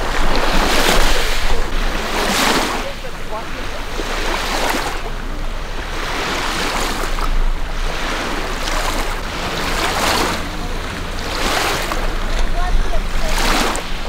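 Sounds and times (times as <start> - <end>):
pond water splashing: 0.0 - 14.0
wind rumbling on microphone: 0.0 - 14.0.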